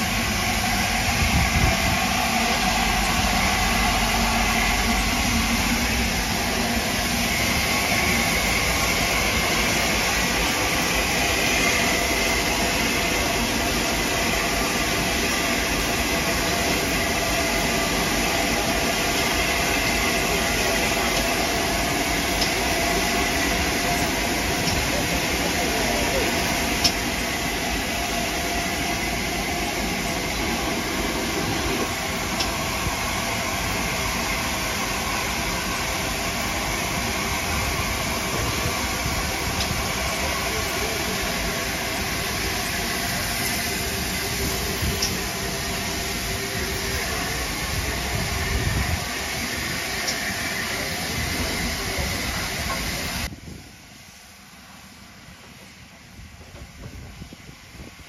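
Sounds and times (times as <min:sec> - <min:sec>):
loud hiss of steam: 0:00.0 - 0:58.0.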